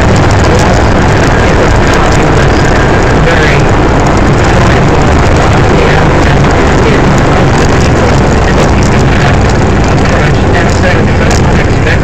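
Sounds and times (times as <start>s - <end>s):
car engine drone: 0.0s - 12.0s
wind and road noise: 0.0s - 12.0s.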